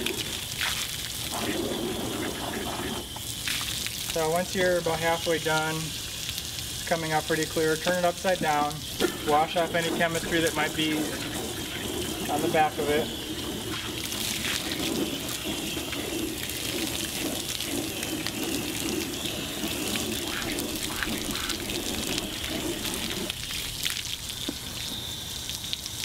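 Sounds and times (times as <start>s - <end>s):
water splashing in plastic tub: 0.0s - 26.0s
water spraying from hose wand: 0.0s - 26.0s.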